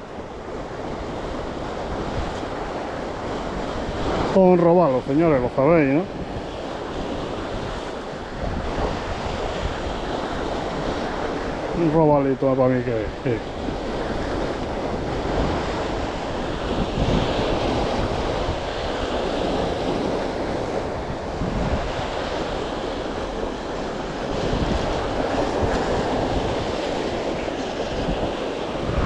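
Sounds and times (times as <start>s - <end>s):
wind buffeting microphone: 0.0s - 11.8s, 12.7s - 29.0s
waves washing against rocks: 0.1s - 29.0s.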